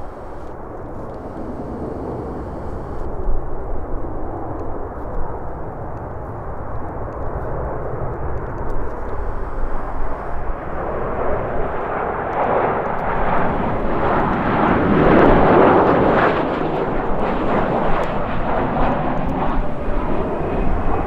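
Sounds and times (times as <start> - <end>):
jet airliner engine roar: 0.0 - 21.0.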